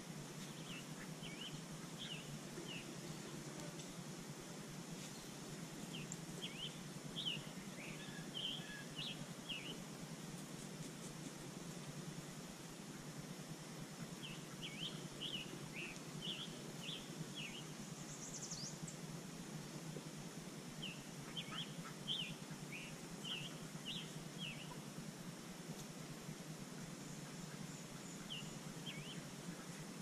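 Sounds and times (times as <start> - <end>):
low background hum: 0.0 - 30.0
songbird chirping: 0.0 - 30.0.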